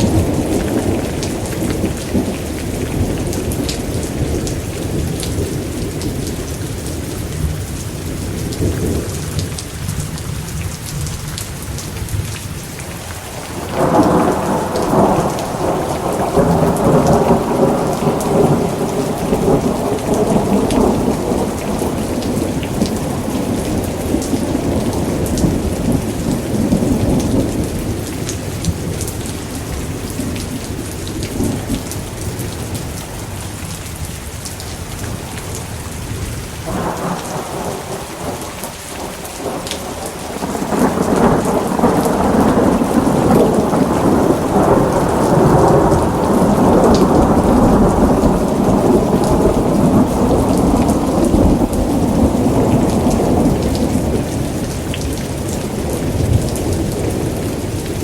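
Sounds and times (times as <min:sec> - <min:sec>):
rumbling thunder: 0:00.0 - 0:10.1, 0:13.4 - 0:33.3, 0:35.2 - 0:58.0
heavy rain: 0:00.0 - 0:58.0.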